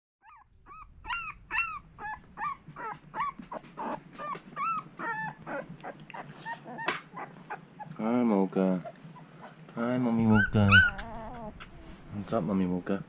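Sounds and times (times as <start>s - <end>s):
puppies whimpering and squealing: 0.2s - 8.0s, 8.7s - 9.6s, 10.2s - 12.2s.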